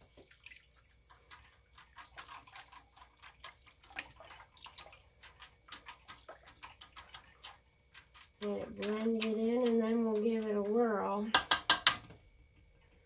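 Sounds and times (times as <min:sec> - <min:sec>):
utensil stirring liquid: 0:00.0 - 0:13.0.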